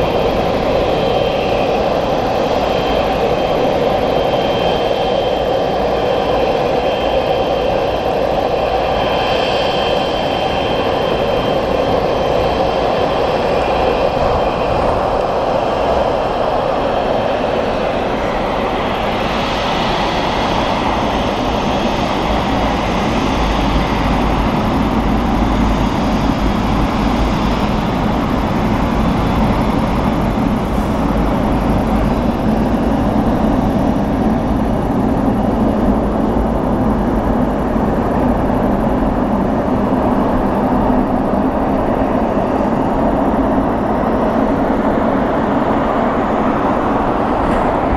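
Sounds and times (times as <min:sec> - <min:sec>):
jet engines whine and rumble: 0:00.0 - 0:47.9.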